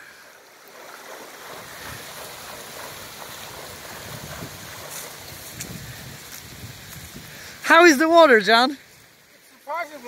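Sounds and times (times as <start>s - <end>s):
lake water: 0.0s - 10.0s.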